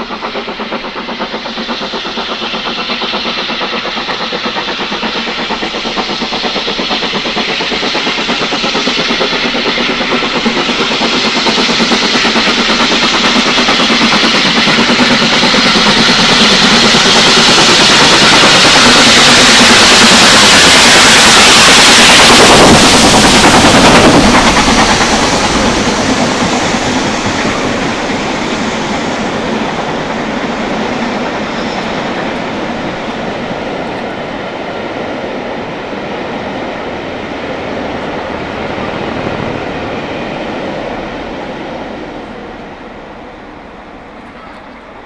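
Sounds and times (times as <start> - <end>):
steam hiss: 0.0 - 45.0
steam locomotive exhaust beats: 0.0 - 45.0
train rumble: 0.0 - 45.0.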